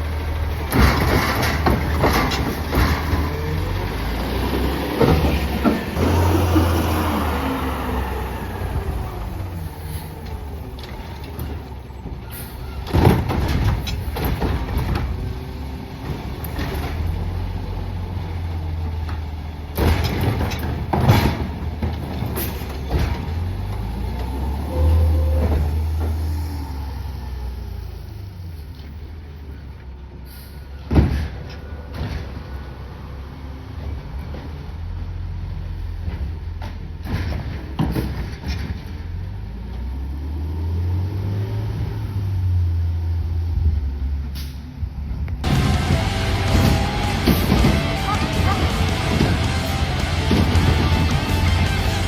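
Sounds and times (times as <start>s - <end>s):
garbage truck engine rumbling: 0.0s - 52.0s.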